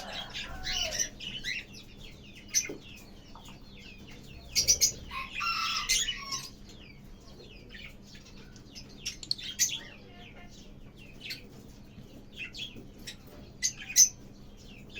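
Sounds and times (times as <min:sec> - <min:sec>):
lovebirds chattering: 0:00.0 - 0:14.9.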